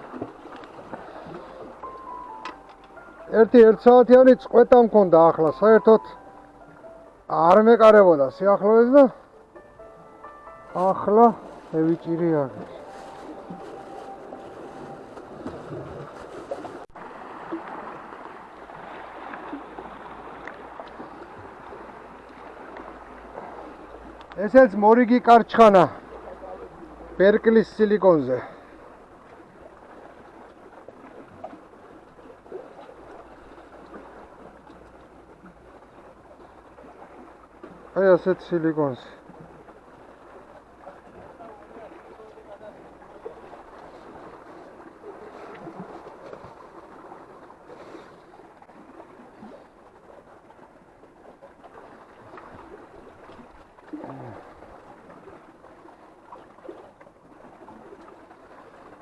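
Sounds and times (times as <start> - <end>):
small waves lapping: 0.0 - 59.0.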